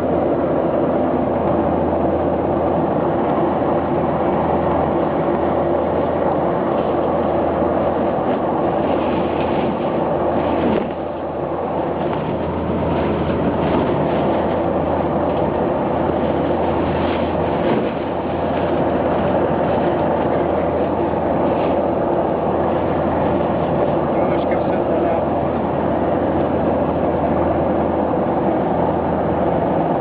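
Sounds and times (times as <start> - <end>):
airliner engines droning: 0.0 - 30.0
cabin rumble: 0.0 - 30.0.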